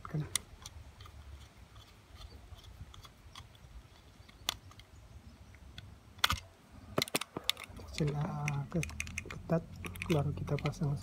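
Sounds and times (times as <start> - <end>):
screwdriver clicking and scraping: 0.0 - 4.9, 6.2 - 11.0.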